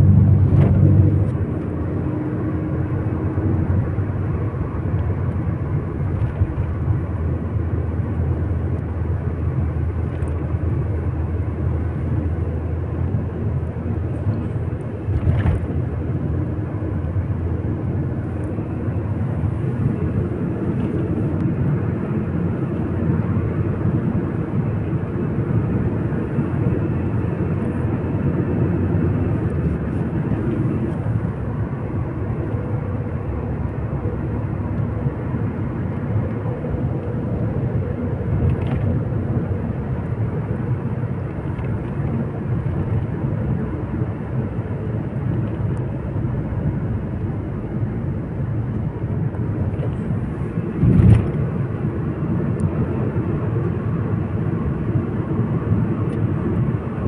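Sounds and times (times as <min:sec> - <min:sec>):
road and engine noise in car: 0:00.0 - 0:57.0.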